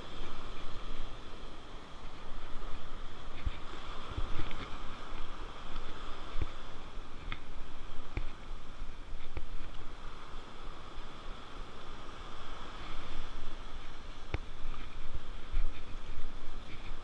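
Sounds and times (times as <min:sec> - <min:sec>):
surf washing up beach: 0:00.0 - 0:17.0
wind buffeting microphone: 0:00.0 - 0:17.0.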